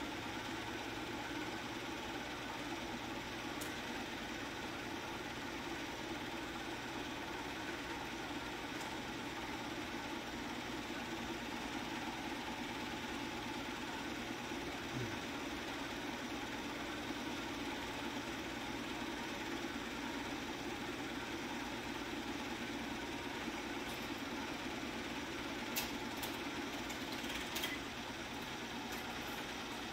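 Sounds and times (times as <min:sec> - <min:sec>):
film projector whirring: 0:00.0 - 0:29.9.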